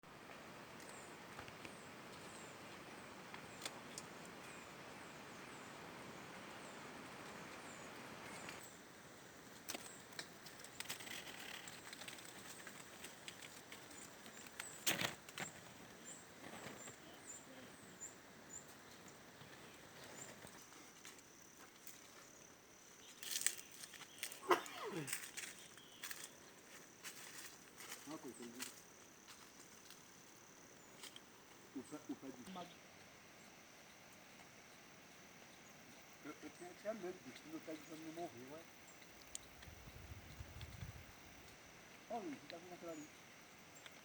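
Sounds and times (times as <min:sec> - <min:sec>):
steady outdoor noise: 0:00.0 - 0:44.0.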